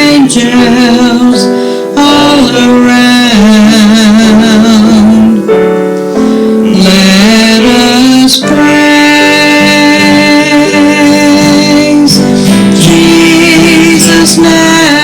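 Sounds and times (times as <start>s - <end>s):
person singing a hymn: 0.0s - 15.0s
piano accompaniment: 0.0s - 15.0s.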